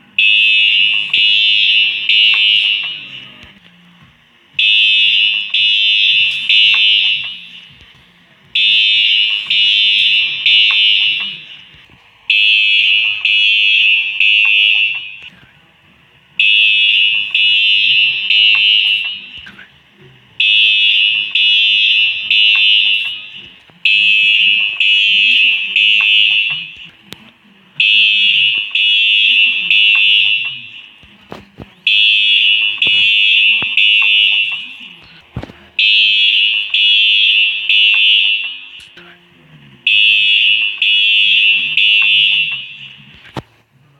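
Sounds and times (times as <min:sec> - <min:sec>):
fire alarm high-pitched beeps: 0:00.0 - 0:03.5, 0:04.6 - 0:08.0, 0:08.6 - 0:15.4, 0:16.4 - 0:19.7, 0:20.4 - 0:27.2, 0:27.8 - 0:39.1, 0:39.8 - 0:43.4.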